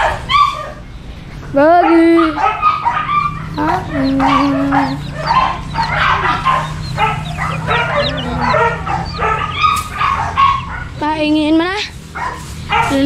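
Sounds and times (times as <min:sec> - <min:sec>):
dogs barking and whining: 0:00.0 - 0:13.0
steady low hum: 0:00.8 - 0:12.8.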